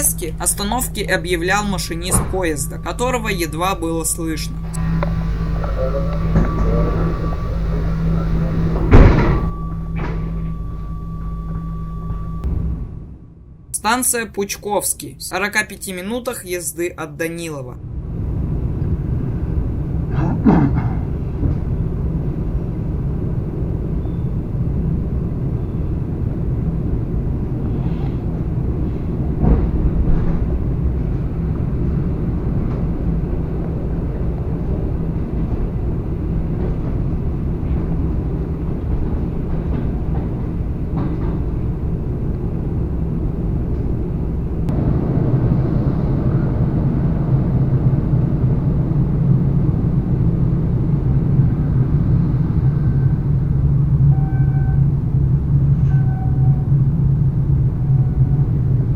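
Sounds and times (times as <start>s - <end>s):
train wheels rumbling on rails: 0.0s - 13.0s, 18.1s - 58.9s.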